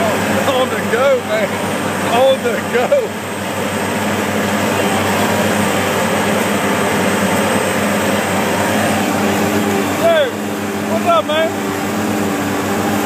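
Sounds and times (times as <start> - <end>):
paver diesel engine humming: 0.0 - 13.0
rush of machinery noise: 0.0 - 13.0.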